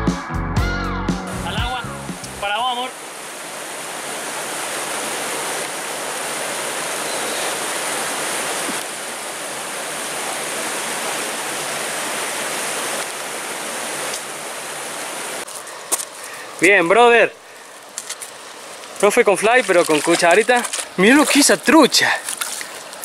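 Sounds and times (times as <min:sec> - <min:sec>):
flowing river water: 0:01.3 - 0:23.0.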